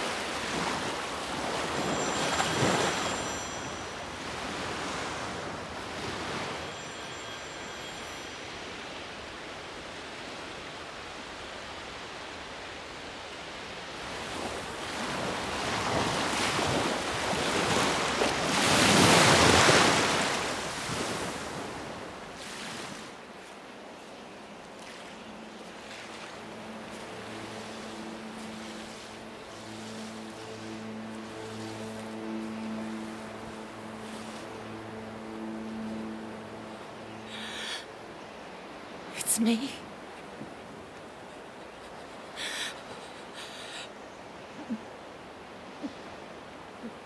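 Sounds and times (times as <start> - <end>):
sea waves washing on a beach: 0.0 - 47.0.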